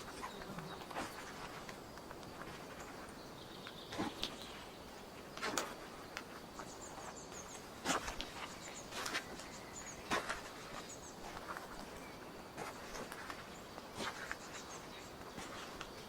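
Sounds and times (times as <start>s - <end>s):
faint bird chirps: 0.0s - 16.0s
footsteps on forest floor: 0.0s - 16.0s.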